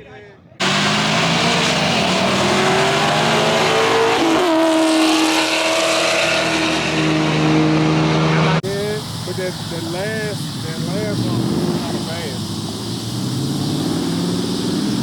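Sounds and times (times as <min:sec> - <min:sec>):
car engine at high revs: 0:00.6 - 0:15.0
tyres squealing: 0:00.6 - 0:15.0.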